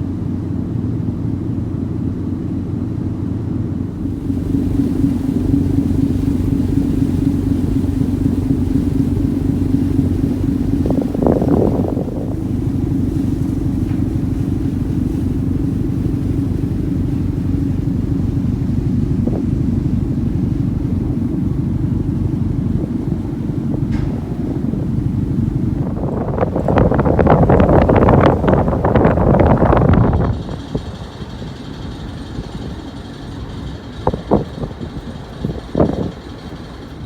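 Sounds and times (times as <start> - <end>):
ferry engine rumbling: 0.0 - 37.0.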